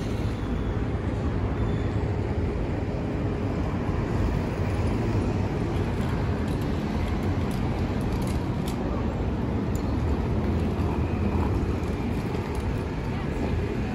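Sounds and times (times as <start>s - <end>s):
road traffic rumble: 0.0s - 13.9s.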